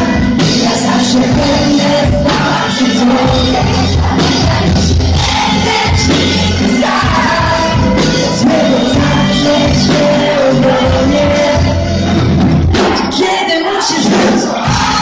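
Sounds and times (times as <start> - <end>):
woman singing: 0.0 - 11.8, 12.8 - 15.0
live pop band: 0.0 - 15.0.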